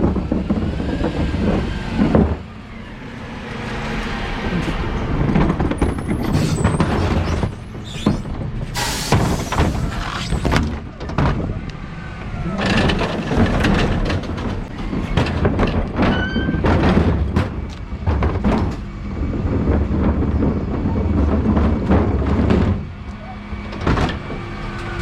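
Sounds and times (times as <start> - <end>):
clunks and rattles: 0.0 - 25.0
garbage truck engine rumbling: 0.0 - 25.0.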